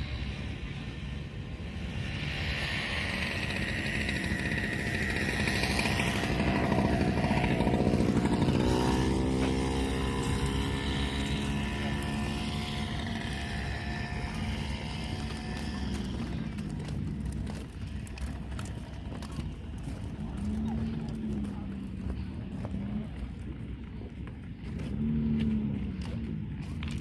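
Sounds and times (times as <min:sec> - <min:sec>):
motor vehicle engine running: 0:00.0 - 0:27.0.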